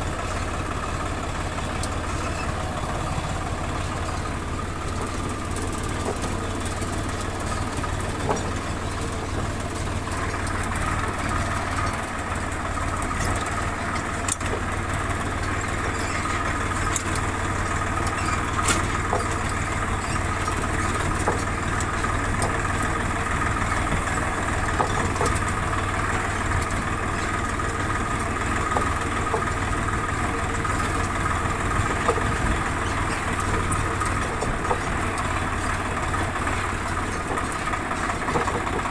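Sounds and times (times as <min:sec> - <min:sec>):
faint rattles and clicks: 0:00.0 - 0:38.9
tractor diesel engine running: 0:00.0 - 0:38.9.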